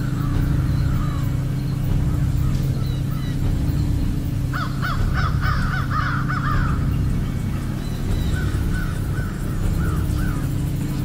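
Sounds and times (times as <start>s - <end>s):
crows cawing: 0.0s - 11.0s
steady low hum: 0.0s - 11.0s.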